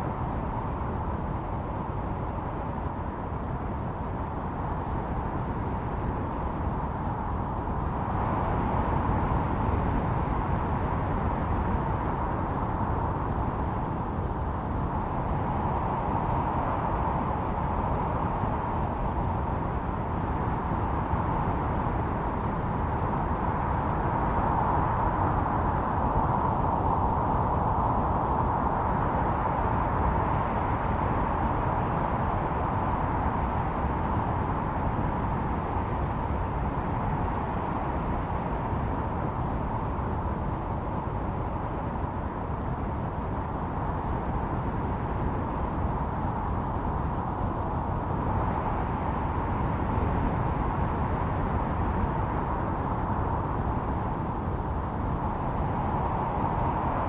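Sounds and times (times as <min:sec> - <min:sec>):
blizzard wind howling: 0:00.0 - 0:57.0.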